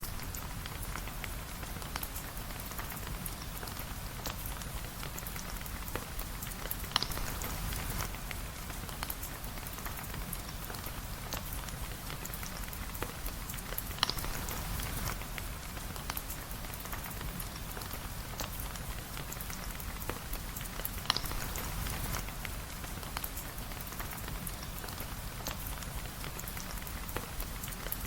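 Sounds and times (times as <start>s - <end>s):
steady rain: 0.0s - 28.0s
small sharp clicks and pops: 0.1s - 28.0s.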